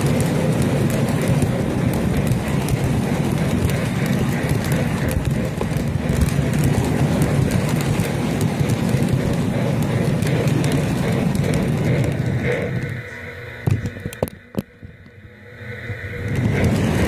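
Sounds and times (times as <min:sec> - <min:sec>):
toy train rumbling on track: 0:00.0 - 0:17.0.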